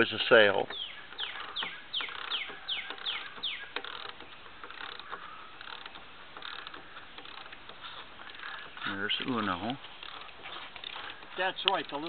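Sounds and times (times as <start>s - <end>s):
bird calling: 0.0s - 11.6s
light clicks and taps: 0.0s - 12.0s.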